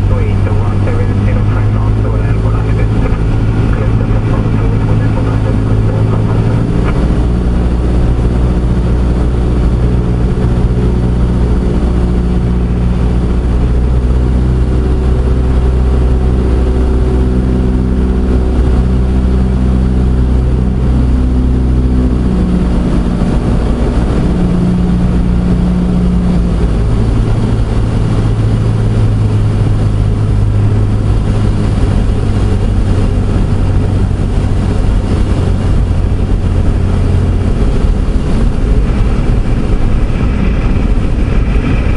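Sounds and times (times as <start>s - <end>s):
airplane engine and propeller drone: 0.0s - 41.9s.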